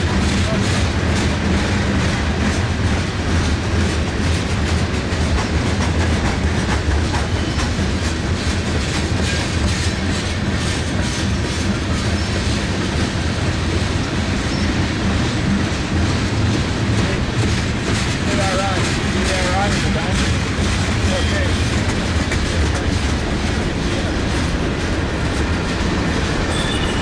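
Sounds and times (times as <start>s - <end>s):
train rolling past: 0.0s - 27.0s.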